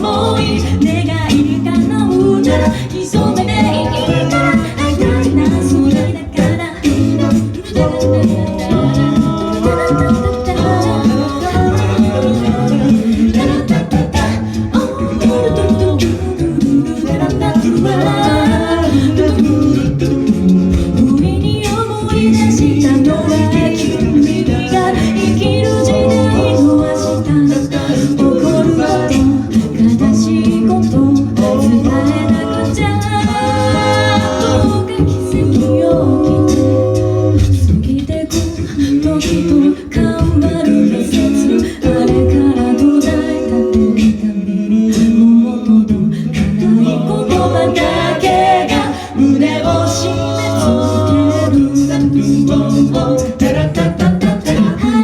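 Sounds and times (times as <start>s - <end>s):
a cappella singing voices: 0.0s - 55.0s.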